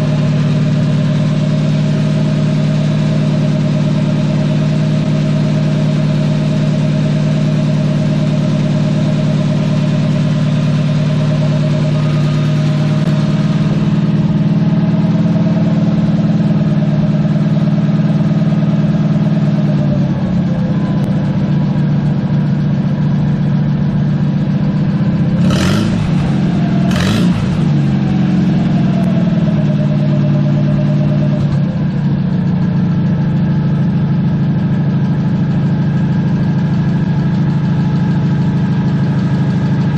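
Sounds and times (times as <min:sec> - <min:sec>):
tractor engine running and revving: 0:00.0 - 0:39.9.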